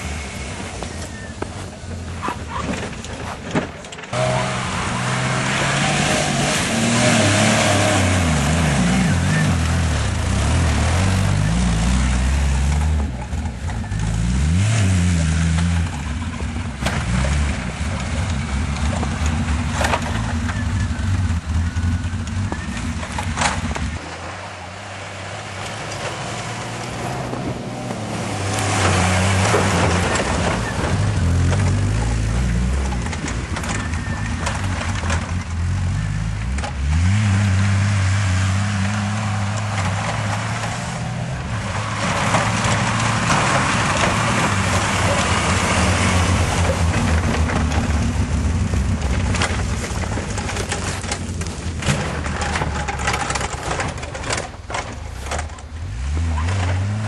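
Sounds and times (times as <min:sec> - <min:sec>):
off-road vehicle engine revving: 0:04.0 - 0:57.0.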